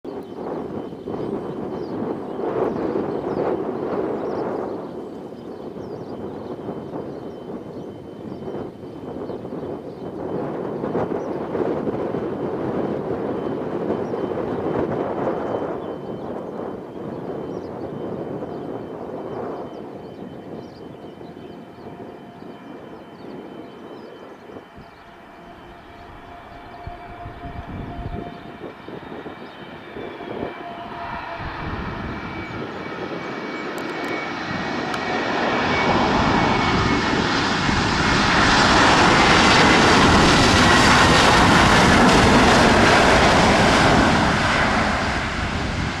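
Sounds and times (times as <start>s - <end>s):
jet engine rush: 0.1s - 46.0s
jet engine whining: 0.1s - 46.0s.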